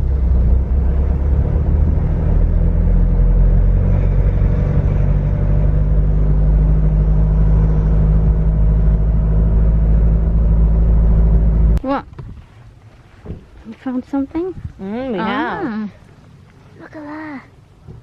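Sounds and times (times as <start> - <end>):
road rumble inside car: 0.0 - 15.5
car engine low hum: 0.0 - 18.0.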